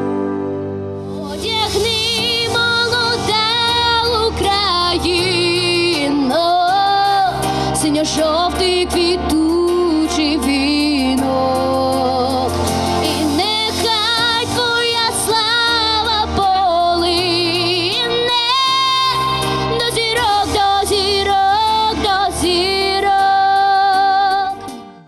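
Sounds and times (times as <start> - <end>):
instrumental backing: 0.0 - 25.0
woman singing with vibrato: 1.1 - 24.6.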